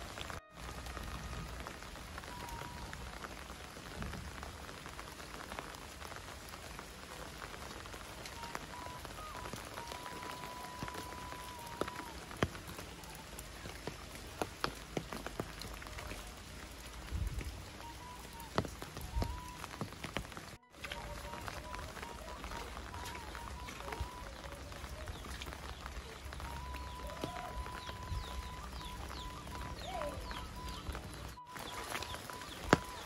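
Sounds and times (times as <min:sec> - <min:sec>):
single raindrops landing close: 0:00.0 - 0:33.0
steady rain falling: 0:00.0 - 0:33.0.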